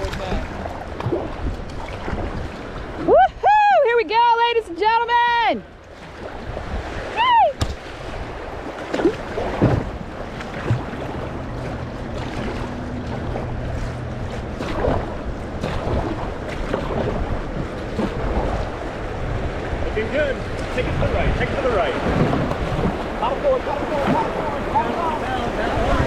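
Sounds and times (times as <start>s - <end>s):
paddle splashes and knocks: 0.0s - 3.1s, 5.8s - 26.0s
wind on microphone: 0.0s - 3.8s, 5.6s - 26.0s
rushing water: 0.0s - 26.0s.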